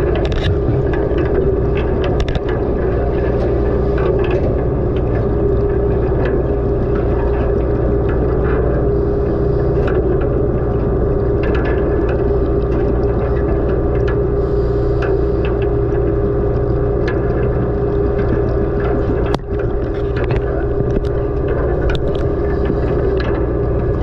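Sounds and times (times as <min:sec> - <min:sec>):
faint irregular clicks: 0:00.0 - 0:24.0
underwater machinery drone: 0:00.0 - 0:24.0.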